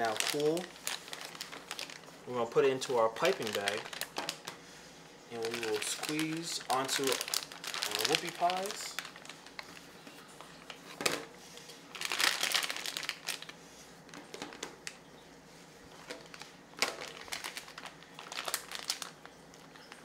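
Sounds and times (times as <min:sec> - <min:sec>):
piping bag crinkling: 0:00.0 - 0:10.9, 0:11.8 - 0:15.1, 0:15.9 - 0:20.0.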